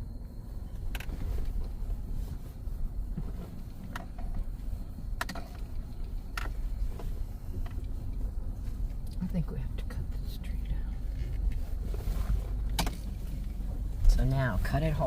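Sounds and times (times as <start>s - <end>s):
vehicle rolling low rumble: 0.0s - 15.0s.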